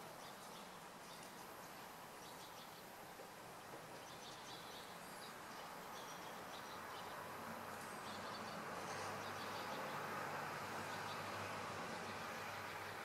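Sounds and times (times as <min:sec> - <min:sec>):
distant small birds chirping: 0:00.0 - 0:13.0
outdoor background noise: 0:00.0 - 0:13.0.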